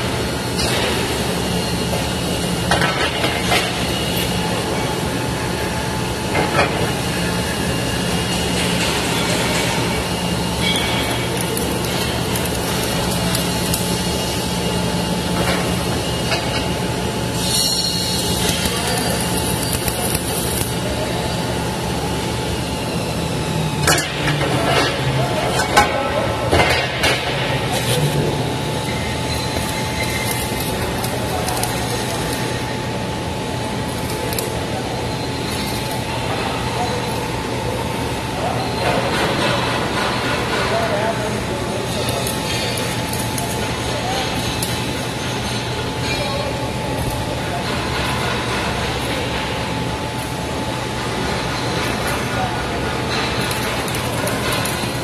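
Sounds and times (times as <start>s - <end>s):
arc welding crackling and hissing: 0.0s - 55.0s
machinery drone with low hum: 0.0s - 55.0s.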